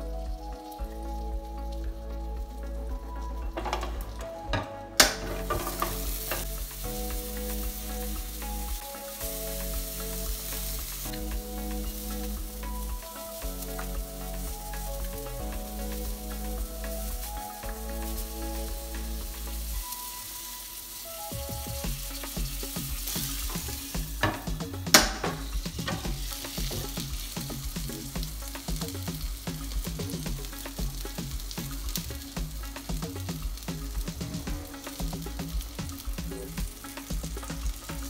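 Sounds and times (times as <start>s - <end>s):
background music with beat: 0.0s - 38.0s
meat sizzling in oil: 5.0s - 38.0s.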